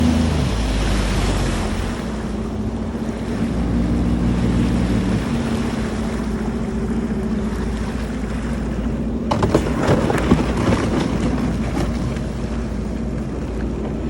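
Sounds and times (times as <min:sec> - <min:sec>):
jet ski engine running: 0:00.0 - 0:14.0
water and wind hiss: 0:00.0 - 0:14.0.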